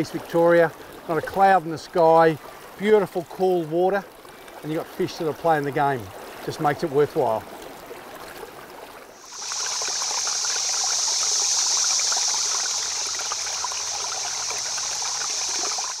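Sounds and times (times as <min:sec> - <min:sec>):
hissing rush of water: 0:00.0 - 0:07.5, 0:09.1 - 0:16.0
faint stream water: 0:00.0 - 0:16.0.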